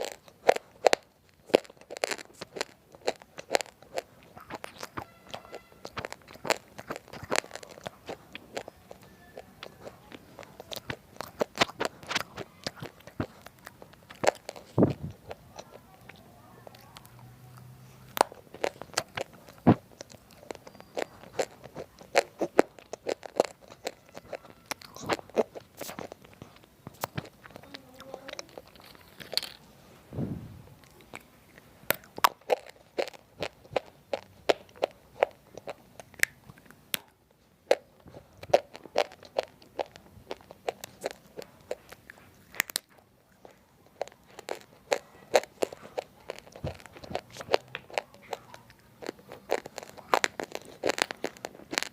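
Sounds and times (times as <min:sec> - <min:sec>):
crunching clay chips: 0:00.0 - 0:17.2, 0:18.1 - 0:29.7, 0:31.9 - 0:51.9.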